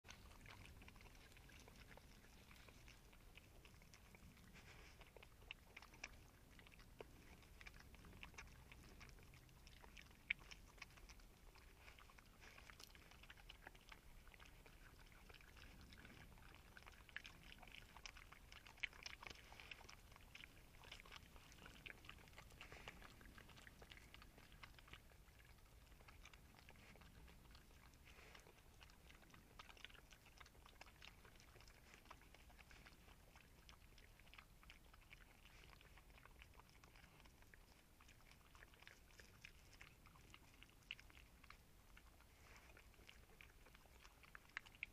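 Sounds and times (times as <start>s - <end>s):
badger chewing and crunching food: 0.0s - 44.9s.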